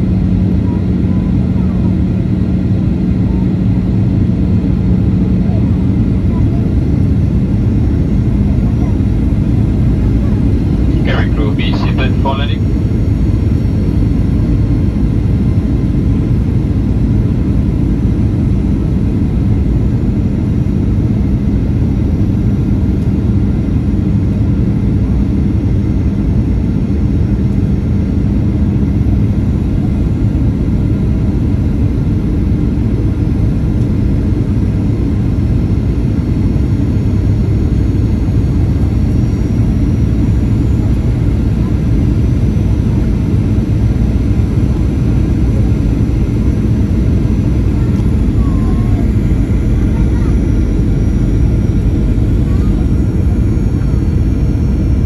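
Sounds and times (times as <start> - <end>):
low steady hum: 0.0 - 24.9, 26.9 - 55.0
jet airliner cabin noise: 0.0 - 55.0.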